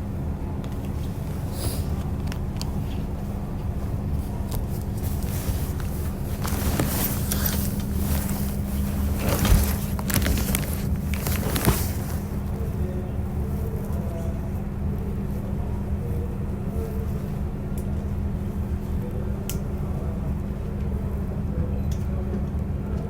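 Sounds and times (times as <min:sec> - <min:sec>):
diesel railcar engine humming: 0:00.0 - 0:23.0.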